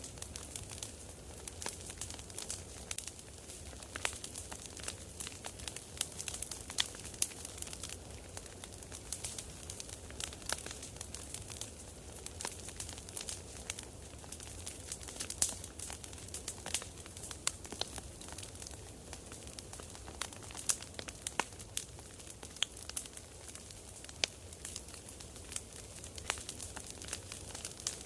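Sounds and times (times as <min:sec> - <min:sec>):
campfire crackling and popping: 0:00.0 - 0:28.0
fire hissing: 0:00.0 - 0:28.0.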